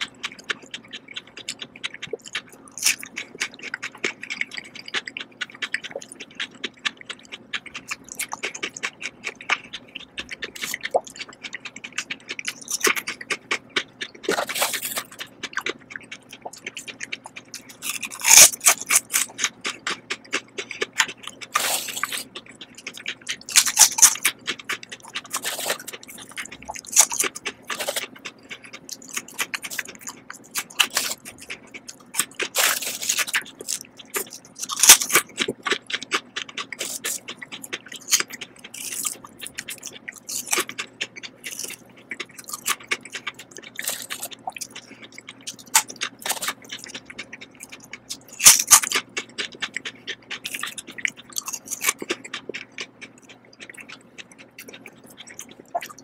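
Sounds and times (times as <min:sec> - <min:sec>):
crunchy bites into chips: 0:00.0 - 0:56.0
wet chewing of melon: 0:00.0 - 0:56.0.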